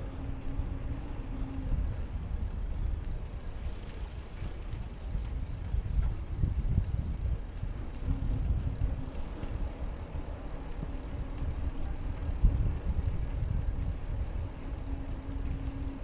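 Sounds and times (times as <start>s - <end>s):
faint light ticks: 0.0s - 1.9s, 2.6s - 16.0s
faint steady hum: 0.0s - 16.0s
tyre and wind rumble: 0.0s - 16.0s.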